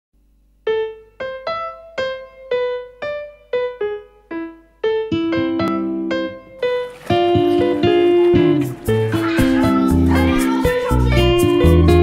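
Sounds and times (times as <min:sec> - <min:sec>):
low piano chords: 0:00.4 - 0:12.0
slow piano melody: 0:00.4 - 0:12.0.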